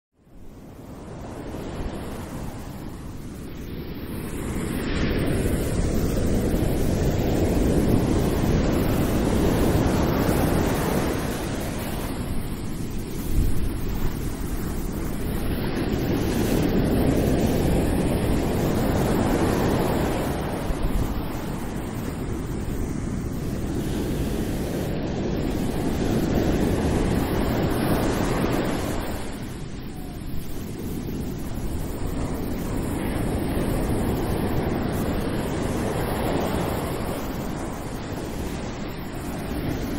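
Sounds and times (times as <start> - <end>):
ocean waves washing: 0.6 - 39.9.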